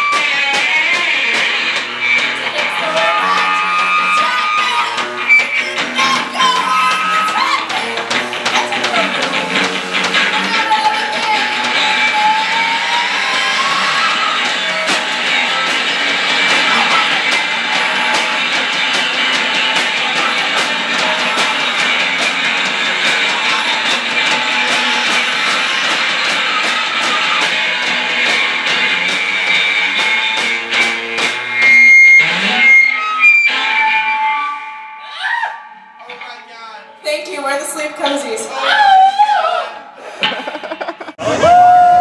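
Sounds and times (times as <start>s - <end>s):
live rock music: 0.0s - 39.0s, 40.1s - 42.0s.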